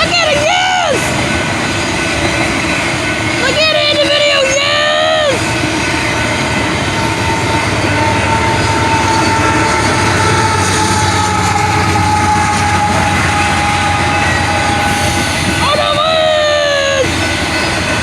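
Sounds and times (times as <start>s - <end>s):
train cars rumbling past: 0.0s - 18.0s.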